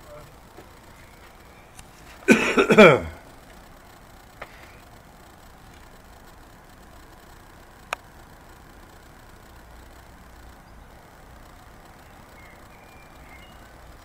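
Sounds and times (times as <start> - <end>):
low background hum and hiss: 0.0 - 14.0.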